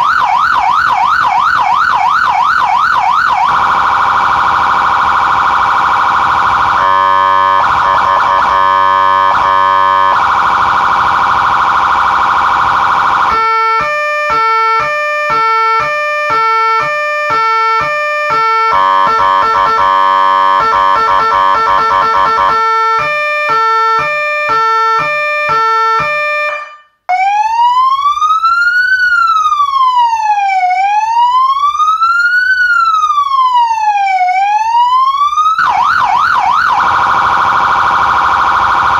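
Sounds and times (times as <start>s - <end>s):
electronic police siren: 0.0s - 38.9s.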